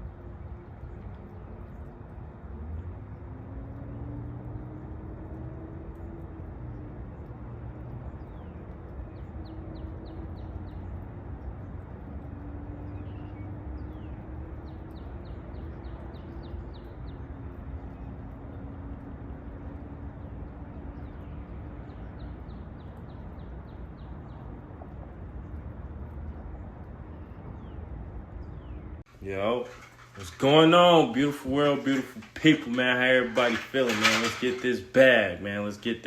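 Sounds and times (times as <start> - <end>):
songbird singing: 0.0 - 36.0.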